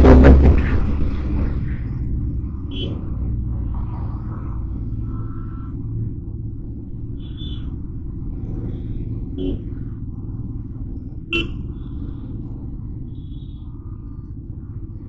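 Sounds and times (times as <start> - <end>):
motorcycle engine rumble: 0.0 - 15.0
wind noise: 0.0 - 15.0.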